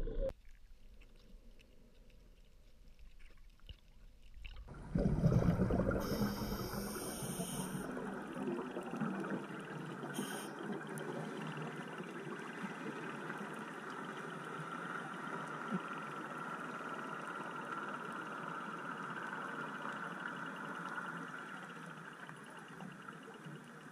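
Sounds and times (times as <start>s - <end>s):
underwater hiss and crackle: 0.4s - 23.9s.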